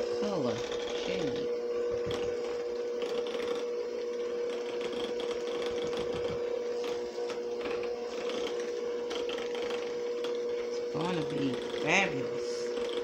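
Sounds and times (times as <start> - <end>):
electric hand mixer humming: 0.0 - 13.0.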